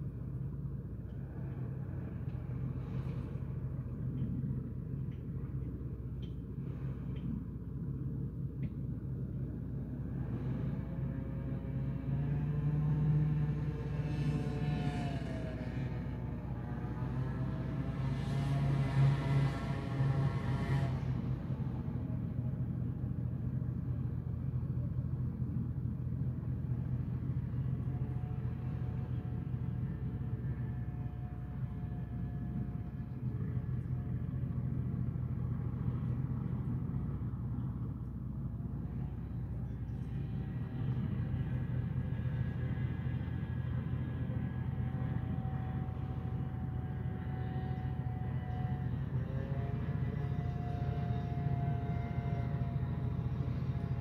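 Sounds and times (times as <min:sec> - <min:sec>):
boat diesel engine drone: 0:00.0 - 0:54.0
faint thin whine: 0:00.0 - 0:54.0.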